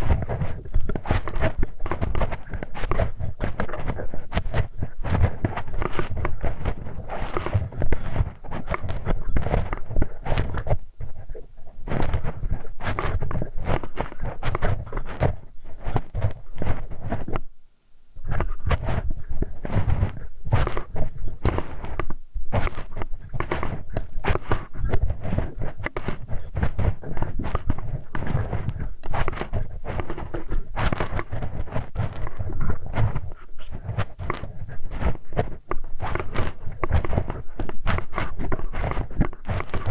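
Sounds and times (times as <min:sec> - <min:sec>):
tools scraping and tapping at microphone: 0:00.0 - 0:17.5, 0:18.2 - 0:39.9.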